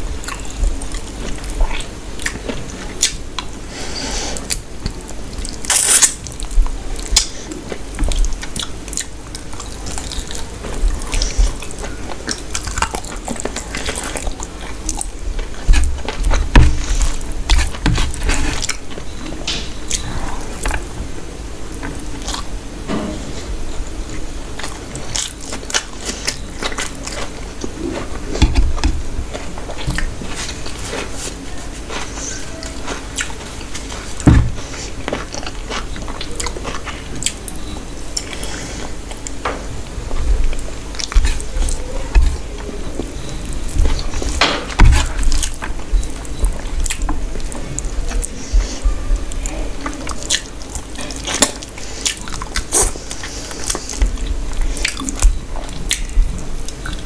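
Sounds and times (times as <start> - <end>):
chewing and lip smacking: 0.2 - 3.5, 4.4 - 20.8, 21.7 - 22.5, 24.1 - 39.4, 40.1 - 57.0.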